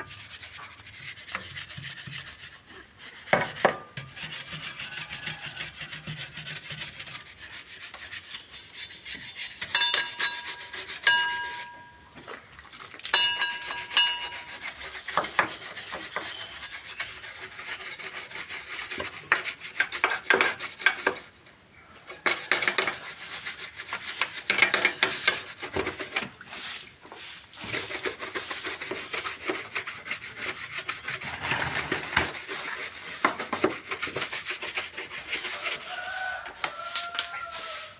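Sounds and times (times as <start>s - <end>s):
rubbing and scraping strokes: 0.0s - 11.8s, 13.4s - 21.3s, 22.2s - 37.9s.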